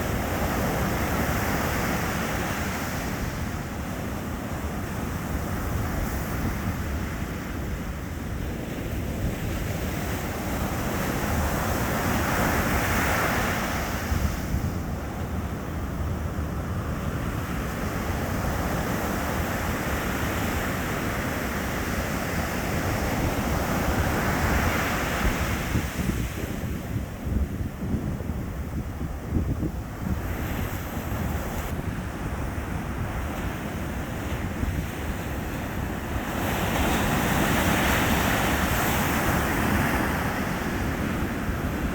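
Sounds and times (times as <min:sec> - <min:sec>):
waves breaking on beach: 0:00.0 - 0:41.9
wind buffeting microphone: 0:00.0 - 0:41.9.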